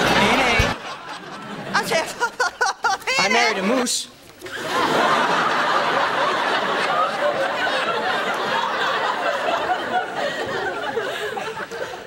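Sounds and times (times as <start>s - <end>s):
studio audience laughing and whooping: 0.0s - 3.6s, 4.4s - 12.0s.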